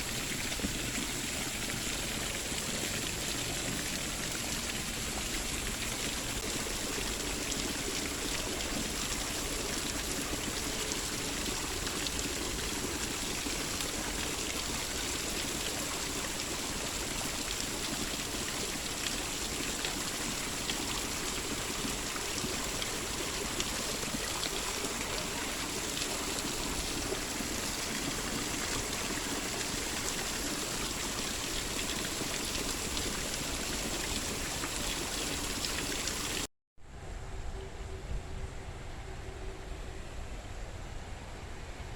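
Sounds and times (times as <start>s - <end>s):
running water splashing: 0.0s - 36.5s.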